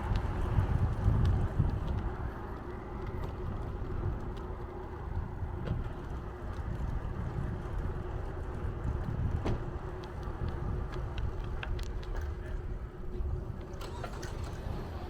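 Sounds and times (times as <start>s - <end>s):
bicycle rolling on road: 0.0s - 15.0s
low wind buffeting: 0.0s - 15.0s.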